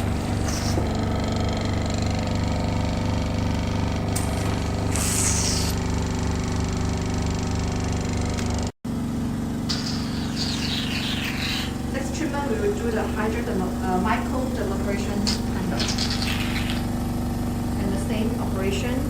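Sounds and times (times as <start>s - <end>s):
pump humming with even pulses: 0.0s - 19.0s.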